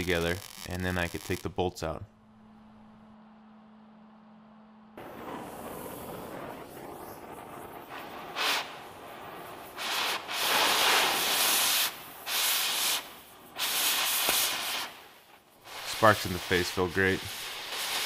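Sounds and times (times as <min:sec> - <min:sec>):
cutting torch hissing: 0:00.0 - 0:01.6, 0:05.0 - 0:18.0.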